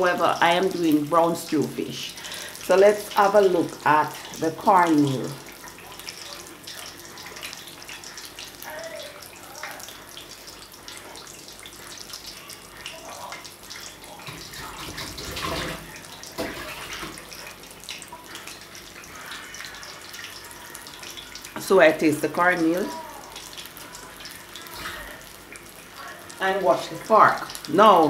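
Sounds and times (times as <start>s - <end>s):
fish sizzling in hot oil: 0.0s - 28.0s.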